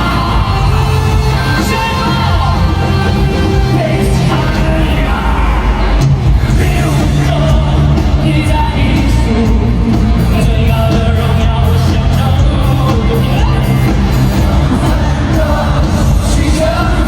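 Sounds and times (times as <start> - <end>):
amplified band playing: 0.0 - 17.0
fans yelling: 0.0 - 17.0
person singing: 0.0 - 17.0.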